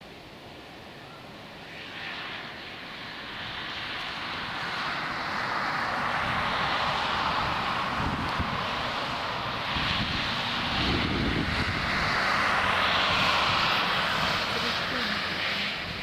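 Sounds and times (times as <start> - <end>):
jet engines roaring: 0.2 - 16.0.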